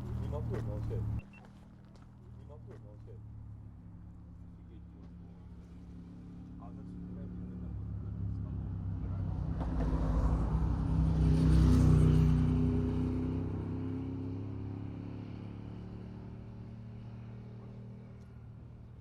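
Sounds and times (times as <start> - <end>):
vehicle passing by: 0.0 - 1.2, 2.4 - 19.0.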